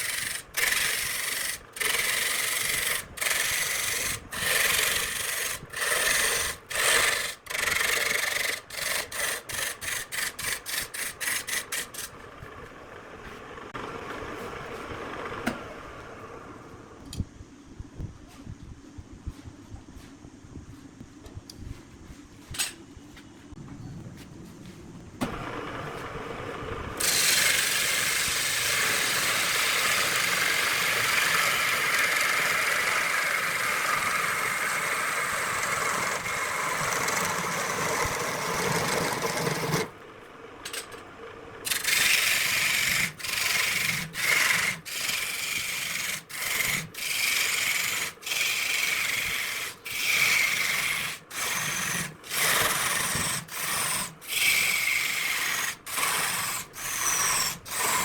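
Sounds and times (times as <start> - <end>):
wood scraping on a lathe: 0.0 - 16.6, 25.3 - 40.0, 41.6 - 58.0.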